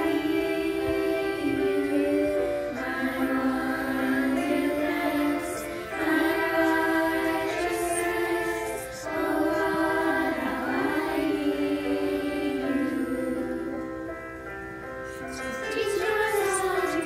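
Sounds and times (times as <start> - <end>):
choir singing slow melody: 0.0 - 17.0.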